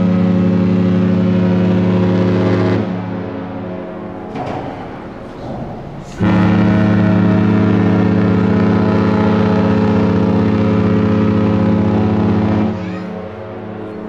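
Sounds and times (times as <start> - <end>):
ship horn long blast: 0.0 - 14.0.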